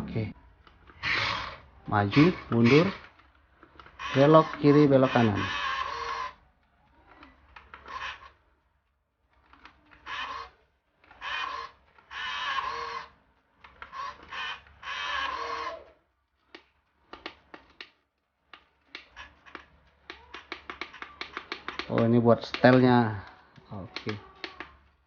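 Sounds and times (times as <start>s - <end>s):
electric motor and gearbox whirring: 0.0s - 8.6s, 9.2s - 25.0s
sharp clicks: 0.6s - 25.0s.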